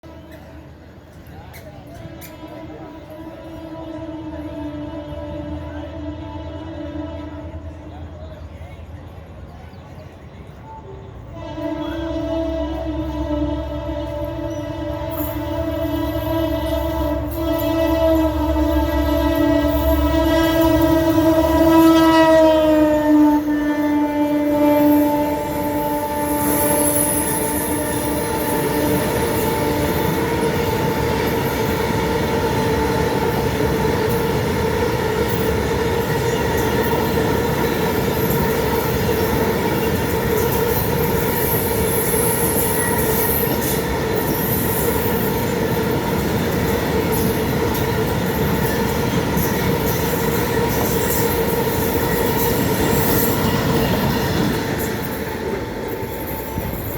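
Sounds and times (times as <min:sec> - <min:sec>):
freight train rumbling: 0:00.0 - 0:56.9
wheels squealing on rails: 0:00.0 - 0:56.9
diesel locomotive horn: 0:01.8 - 0:08.6, 0:11.1 - 0:56.9.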